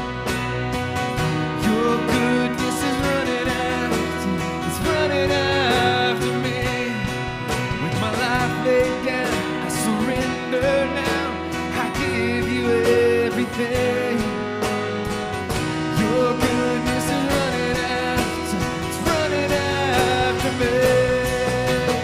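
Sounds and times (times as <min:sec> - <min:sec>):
worship band with guitar: 0:00.0 - 0:22.0.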